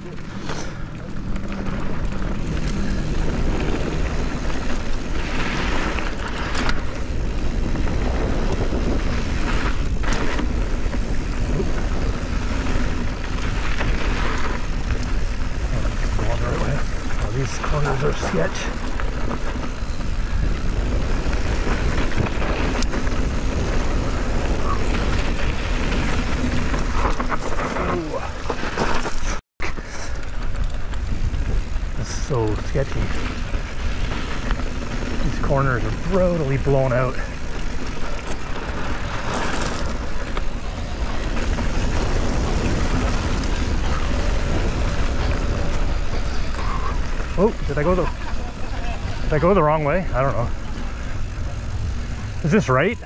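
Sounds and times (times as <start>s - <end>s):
bike tyres on loose dirt: 0.0s - 53.0s
wind rushing over microphone: 0.0s - 53.0s.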